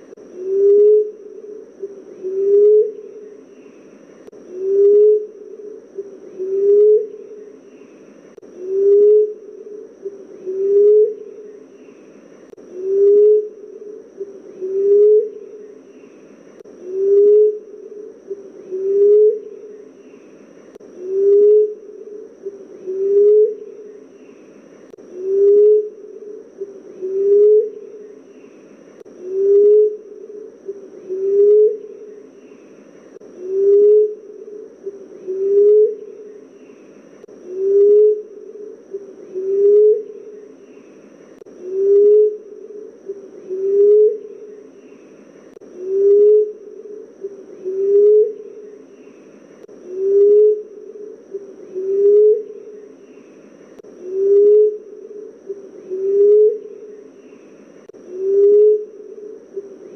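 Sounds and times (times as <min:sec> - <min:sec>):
dove cooing: 0:00.0 - 0:59.9
faint steady high tone: 0:00.0 - 0:59.9.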